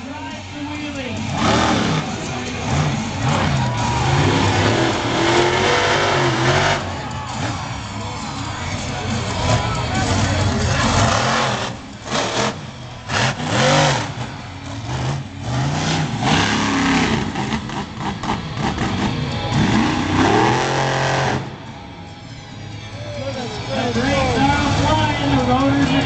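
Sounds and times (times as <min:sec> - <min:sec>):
monster truck engine revving: 0:00.8 - 0:21.8.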